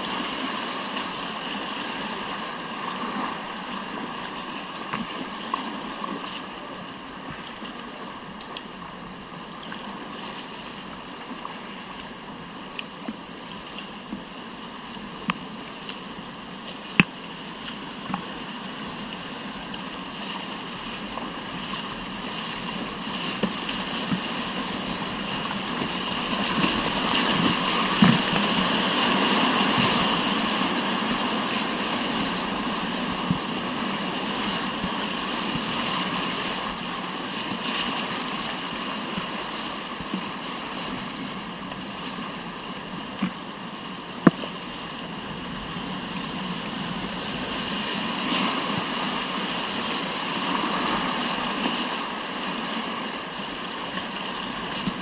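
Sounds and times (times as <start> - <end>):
whitewater rushing: 0.0 - 55.0.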